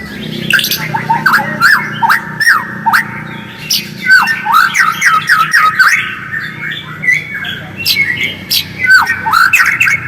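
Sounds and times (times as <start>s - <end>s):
bird sweeping chatter calls: 0.0s - 10.0s.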